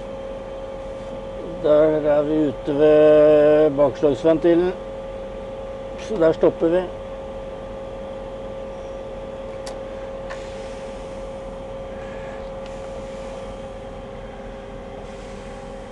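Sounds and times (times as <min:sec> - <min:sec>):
steady mid-pitched hum: 0:00.0 - 0:15.9.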